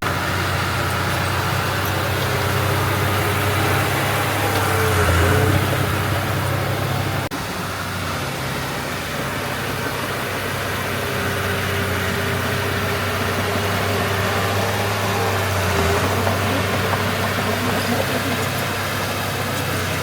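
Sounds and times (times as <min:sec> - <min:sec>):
diesel engine running steadily: 0:00.0 - 0:20.0.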